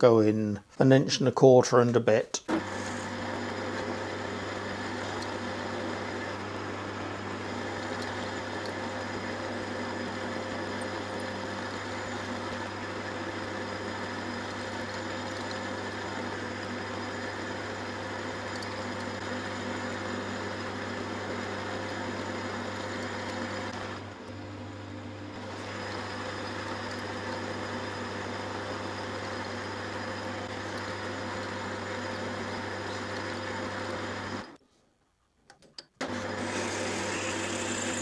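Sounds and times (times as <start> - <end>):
lathe drilling metal hum: 2.5 - 34.6, 36.0 - 38.0.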